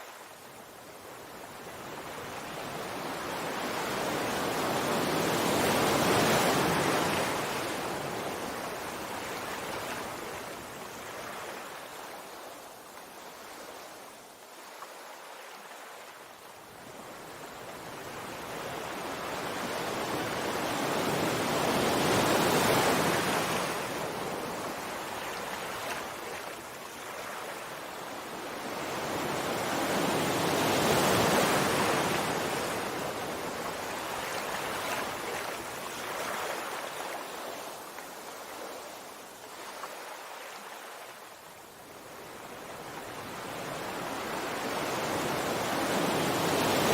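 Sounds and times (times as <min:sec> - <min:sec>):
sea waves washing ashore: 0:00.0 - 0:46.9.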